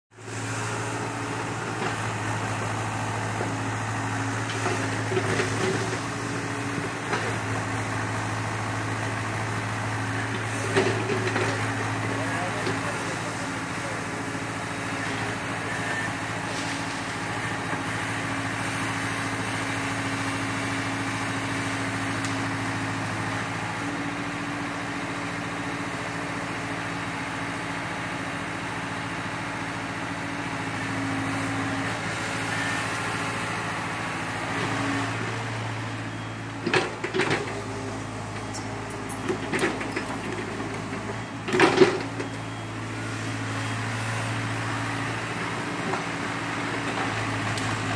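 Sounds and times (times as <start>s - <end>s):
excavator diesel engine running: 0.2s - 47.9s.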